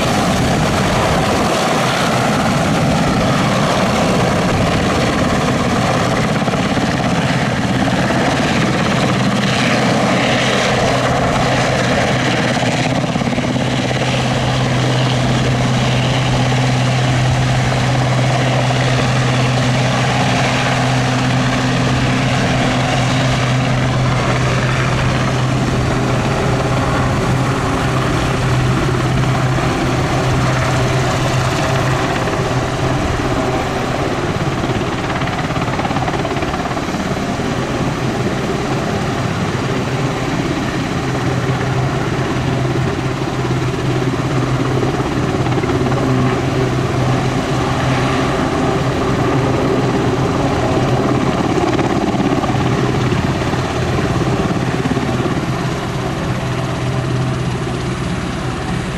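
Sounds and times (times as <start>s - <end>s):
helicopter hovering: 0.0s - 58.9s.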